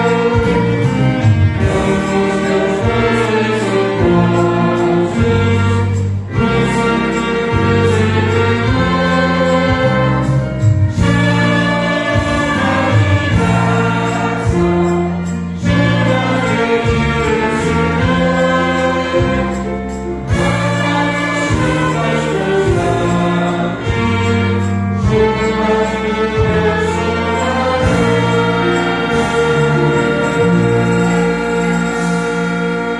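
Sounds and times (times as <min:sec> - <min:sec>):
choir singing a hymn: 0:00.0 - 0:32.9
instrumental accompaniment: 0:00.0 - 0:32.9.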